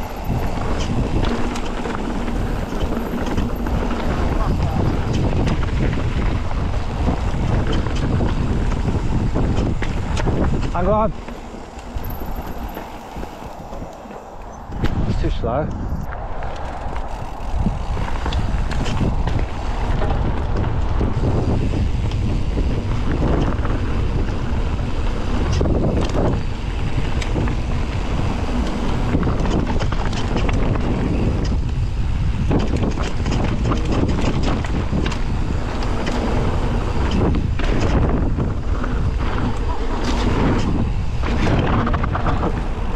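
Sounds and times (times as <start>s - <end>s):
bike clicks and rattles: 0.0s - 42.9s
wind rushing over microphone: 0.0s - 42.9s.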